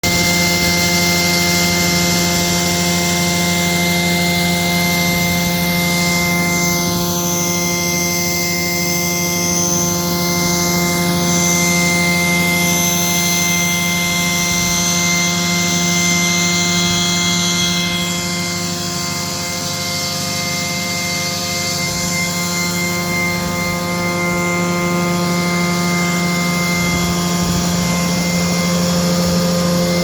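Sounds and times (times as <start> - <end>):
woodworking machine running: 0.0 - 30.0.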